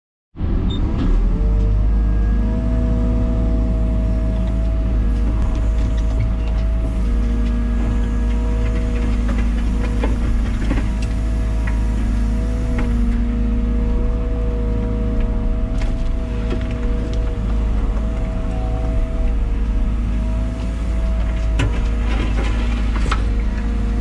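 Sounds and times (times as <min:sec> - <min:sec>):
excavator engine running: 0:00.4 - 0:24.0
hydraulic whine: 0:00.4 - 0:24.0.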